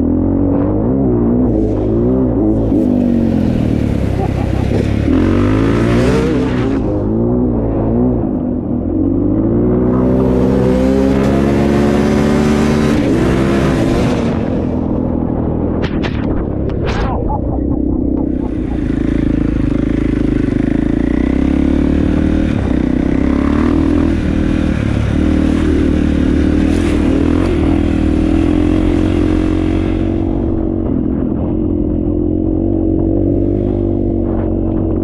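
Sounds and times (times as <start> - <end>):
dirt bike engine running: 0.0 - 8.1, 9.8 - 35.0.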